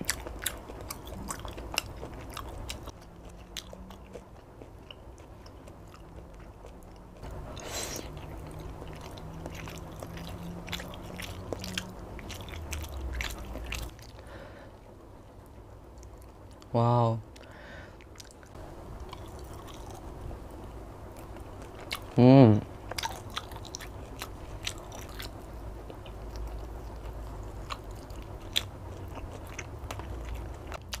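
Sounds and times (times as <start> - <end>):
close chewing and biting: 0.0 - 14.6, 17.4 - 22.2, 22.8 - 31.0.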